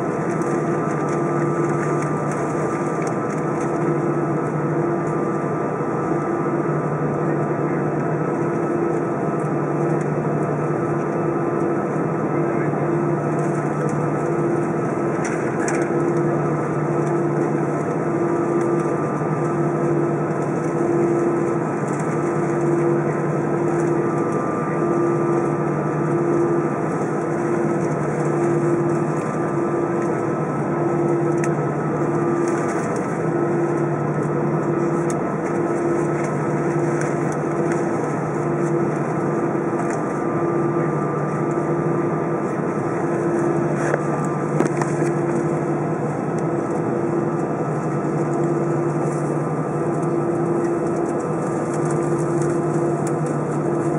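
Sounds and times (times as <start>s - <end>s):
jet engines idling: 0.0s - 53.9s
low throbbing drone: 0.0s - 53.9s.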